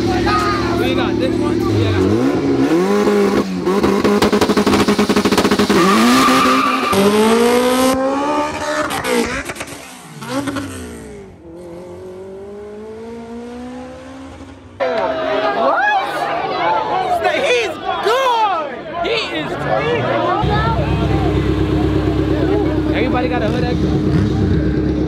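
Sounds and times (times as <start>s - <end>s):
car engines revving and accelerating: 0.0s - 15.7s, 19.0s - 25.0s.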